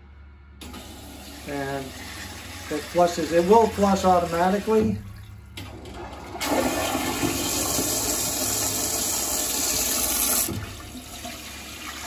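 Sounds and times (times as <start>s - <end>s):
toilet flushing: 0.6s - 12.0s.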